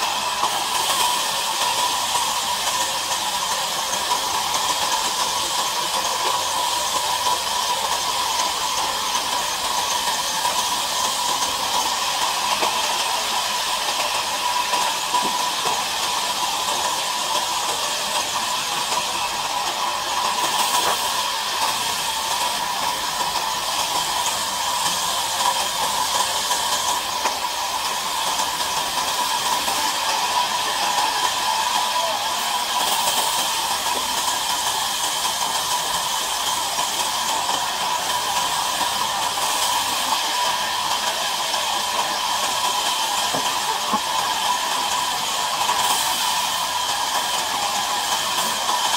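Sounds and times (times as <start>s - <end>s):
band saw cutting timber: 0.0s - 48.9s.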